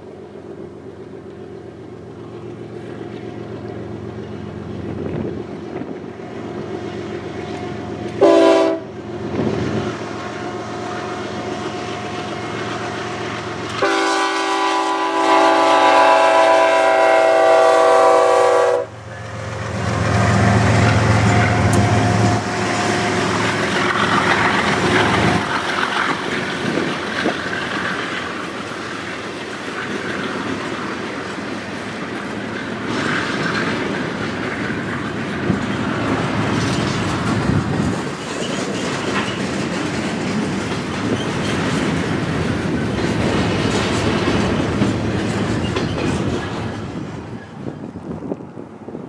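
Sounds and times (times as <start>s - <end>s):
freight train wheels on rails: 0.0s - 49.0s.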